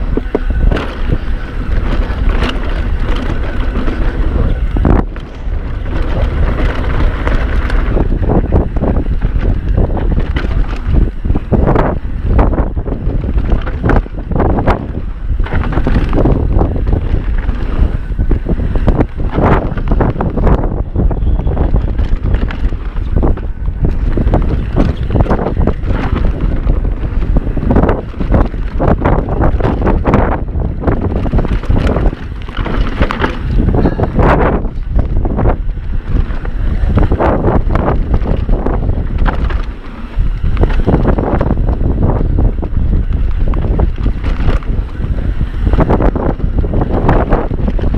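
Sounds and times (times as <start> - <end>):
bike rattling and knocking: 0.0 - 47.9
tyres rumbling on dirt: 0.0 - 47.9
wind buffeting microphone: 0.0 - 47.9.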